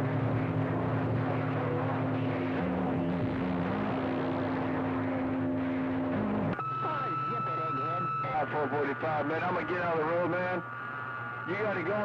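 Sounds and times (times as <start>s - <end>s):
low drone: 0.0s - 11.7s
low steady tone: 0.0s - 11.8s
radio static hiss: 0.0s - 12.0s.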